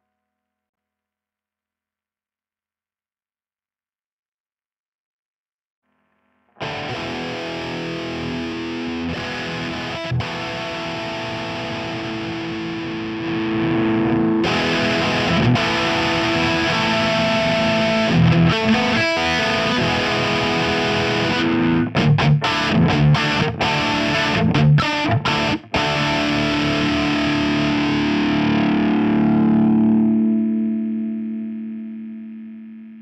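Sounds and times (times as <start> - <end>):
distorted electric guitar: 5.9 - 33.0.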